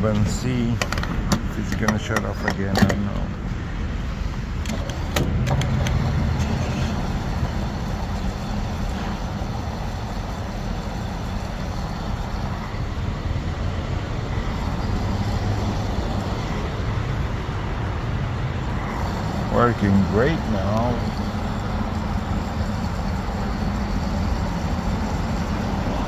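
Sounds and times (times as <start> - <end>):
fuel rushing from pump nozzle: 3.8 - 26.0.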